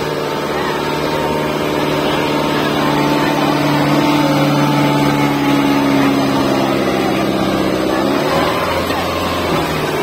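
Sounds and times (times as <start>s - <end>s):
tractor diesel engine running hard: 0.0s - 10.0s.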